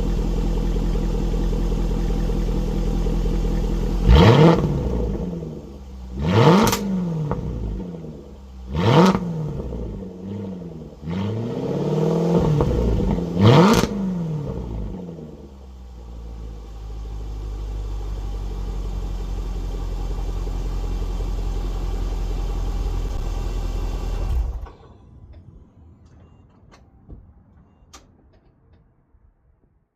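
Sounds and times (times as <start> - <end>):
car engine revving and idling: 0.0 - 27.7.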